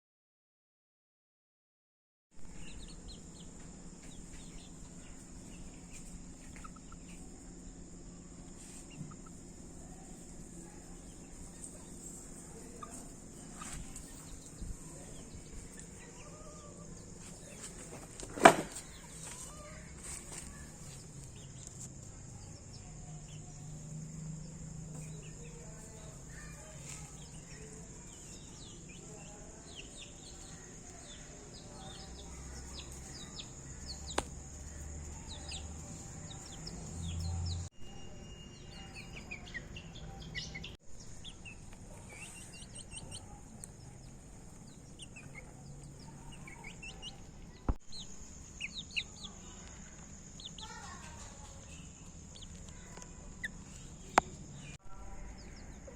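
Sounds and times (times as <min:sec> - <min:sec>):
chicks peeping: 0:02.4 - 0:23.6, 0:24.2 - 0:55.9
steady background hum: 0:02.4 - 0:55.9.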